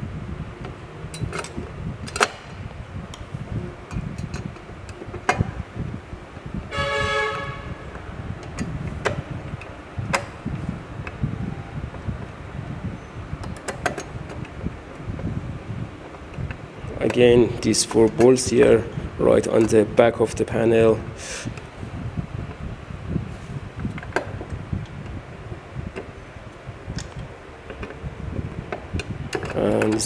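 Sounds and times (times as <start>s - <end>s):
low handling rumble: 0.0s - 30.0s.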